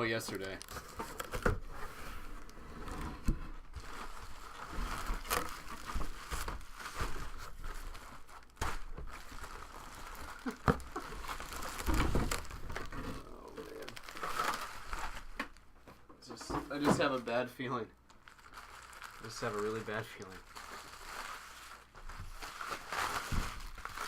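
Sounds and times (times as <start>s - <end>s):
packaging crinkling and rustling: 0.0s - 15.7s, 18.1s - 24.0s.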